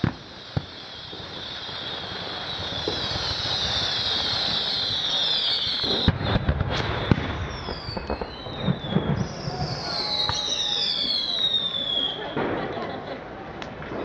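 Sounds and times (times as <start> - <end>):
firework bangs and cracks: 0.0 - 14.0
whistling fireworks: 0.0 - 14.0.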